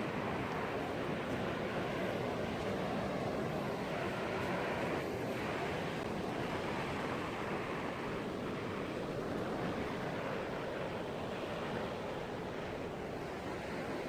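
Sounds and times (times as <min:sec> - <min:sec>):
sea surf on shore: 0:00.0 - 0:14.0
wind: 0:00.0 - 0:14.0.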